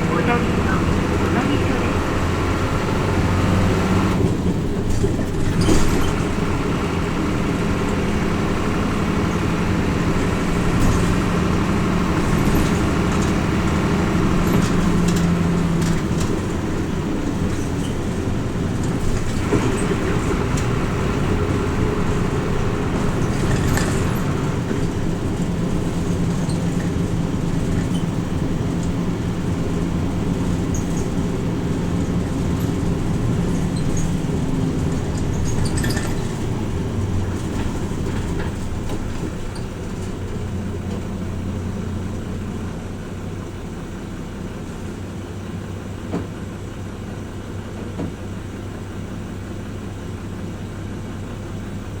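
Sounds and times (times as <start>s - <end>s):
bus diesel engine: 0.0s - 52.0s
road noise: 0.0s - 52.0s.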